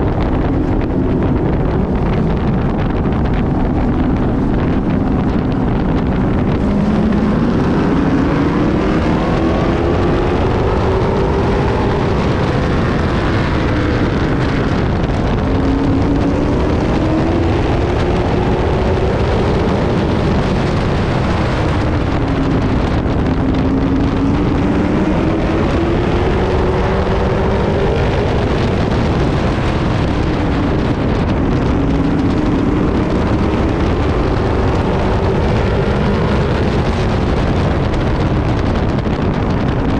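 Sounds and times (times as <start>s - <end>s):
race truck engine revving: 0.0s - 39.9s
rushing wind noise: 0.0s - 39.9s.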